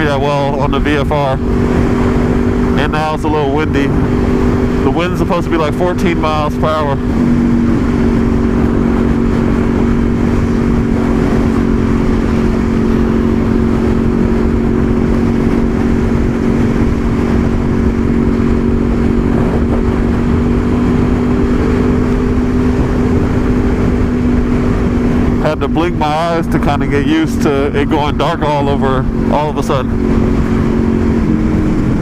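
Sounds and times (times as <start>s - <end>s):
motorcycle engine cruising: 0.0s - 32.0s
wind rushing over microphone: 0.0s - 32.0s.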